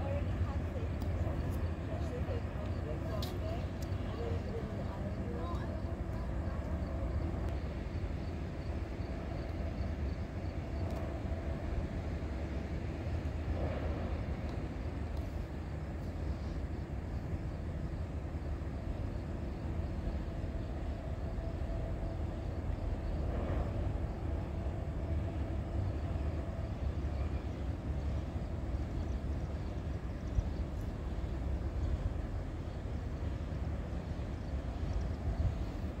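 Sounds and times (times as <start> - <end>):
distant diesel train rumble: 0.0 - 36.0.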